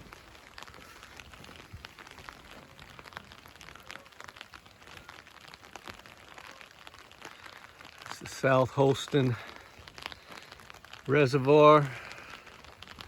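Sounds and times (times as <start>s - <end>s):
light rain with ticking drops: 0.0s - 13.0s.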